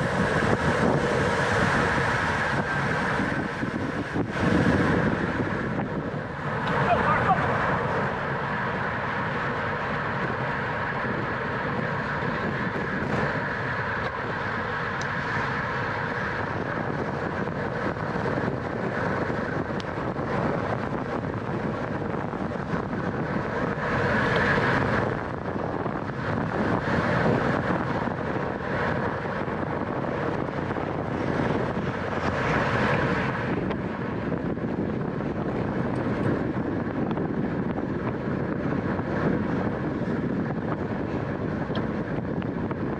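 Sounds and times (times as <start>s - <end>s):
bicycle tyre and drivetrain noise: 0.0s - 42.9s
wind rushing over microphone: 0.0s - 42.9s.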